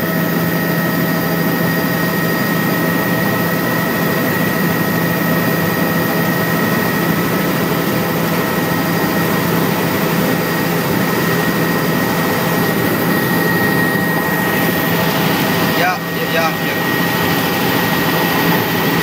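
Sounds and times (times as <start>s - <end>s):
aircraft engine drone: 0.0s - 19.0s
constant high whine: 0.0s - 19.0s.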